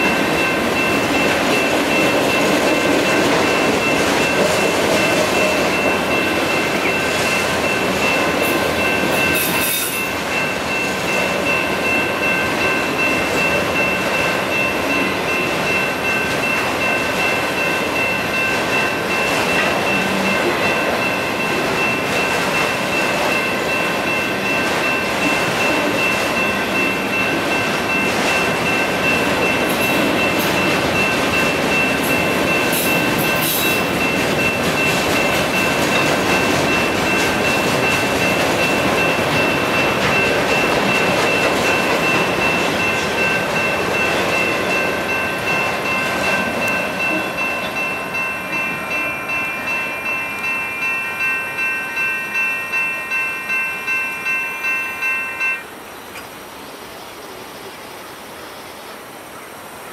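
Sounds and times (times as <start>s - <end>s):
crossing bells ringing: 0.0s - 56.0s
freight train wheels rumbling: 0.0s - 59.9s.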